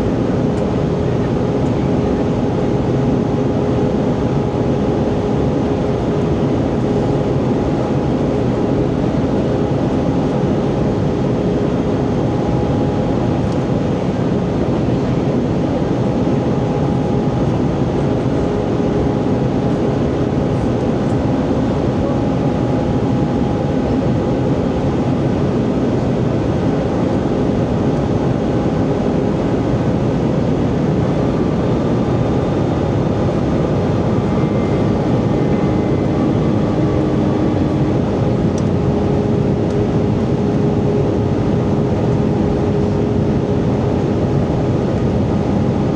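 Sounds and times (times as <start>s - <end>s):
airplane cabin noise: 0.0s - 45.9s.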